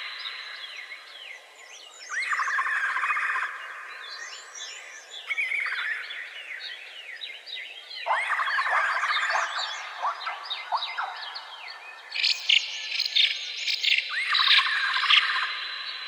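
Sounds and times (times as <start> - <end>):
bird song with rapid trill: 0.0 - 16.0.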